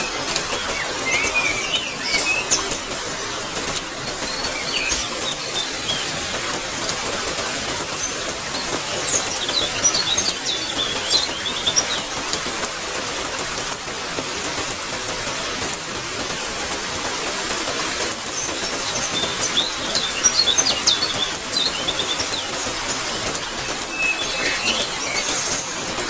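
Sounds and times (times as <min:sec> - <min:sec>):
birds chirping: 0:00.0 - 0:13.4, 0:17.7 - 0:26.0
steady rain hiss: 0:00.0 - 0:26.0.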